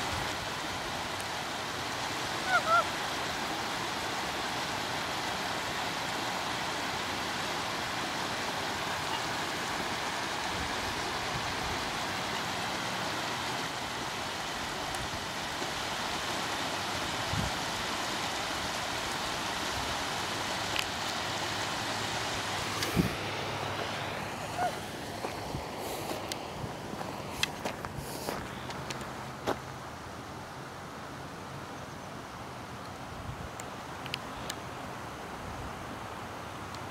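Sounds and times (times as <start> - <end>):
rushing water: 0.0 - 36.9.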